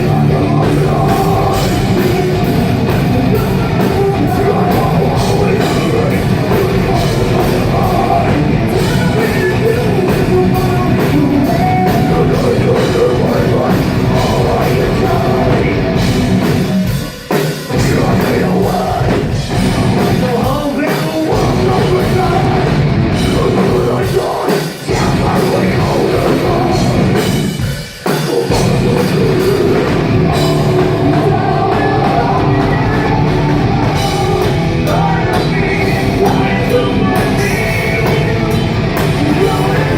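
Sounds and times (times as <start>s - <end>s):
metal band playing live: 0.0s - 39.9s.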